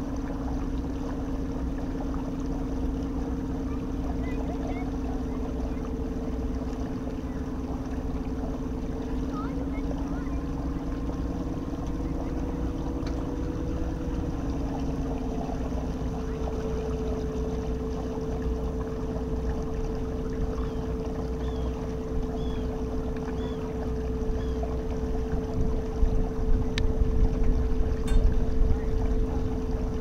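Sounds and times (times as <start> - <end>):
water noise: 0.0 - 30.0.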